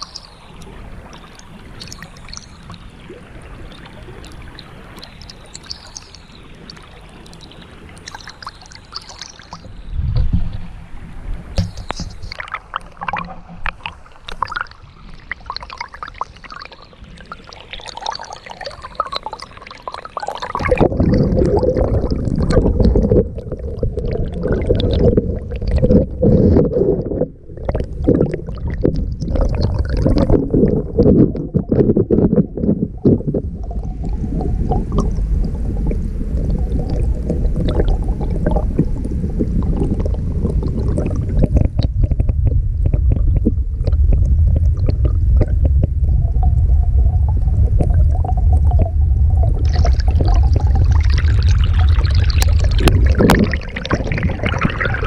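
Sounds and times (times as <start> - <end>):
small underwater crackles: 0.0 - 55.0
underwater stream rumble and gurgle: 0.0 - 55.0.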